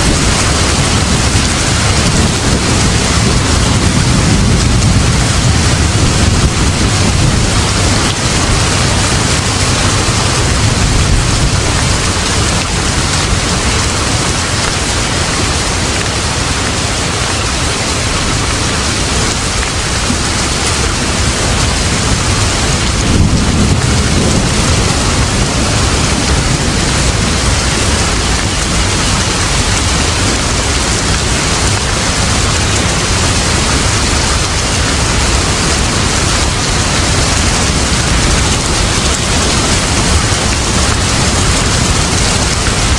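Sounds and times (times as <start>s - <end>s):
heavy rain: 0.0s - 42.9s
low thunder rumbles: 0.0s - 42.9s.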